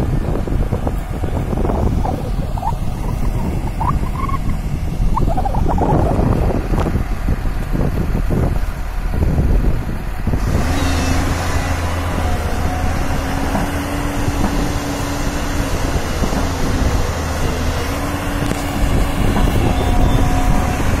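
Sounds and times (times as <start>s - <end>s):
excavator diesel engine: 0.0s - 21.0s
wind buffeting microphone: 0.0s - 21.0s.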